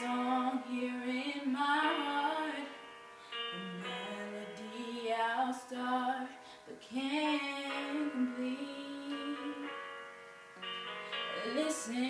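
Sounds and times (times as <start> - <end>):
girl singing a slow ballad: 0.0 - 12.0.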